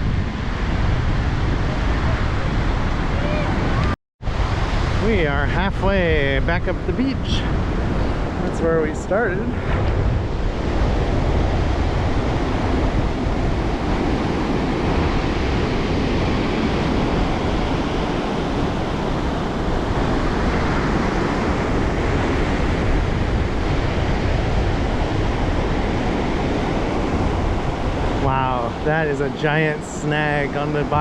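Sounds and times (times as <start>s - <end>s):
surf breaking on beach: 0.0s - 31.0s
wind rumbling on microphone: 0.0s - 31.0s.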